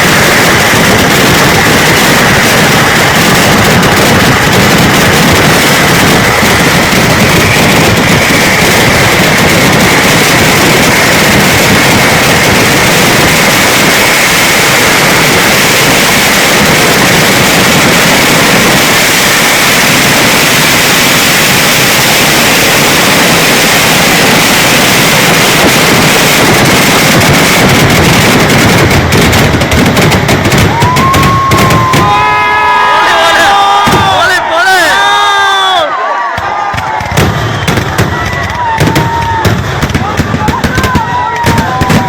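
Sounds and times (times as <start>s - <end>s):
firecracker barrage: 0.0s - 42.0s.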